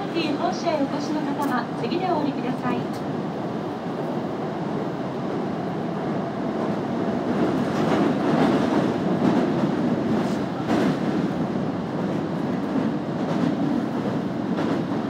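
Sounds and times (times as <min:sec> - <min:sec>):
subway train wheels rumbling: 0:00.0 - 0:15.0.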